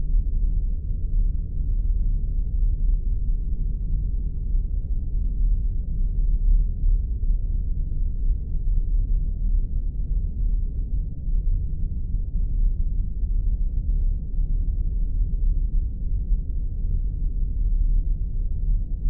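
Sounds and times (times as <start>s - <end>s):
deep steady rumble: 0.0s - 19.0s.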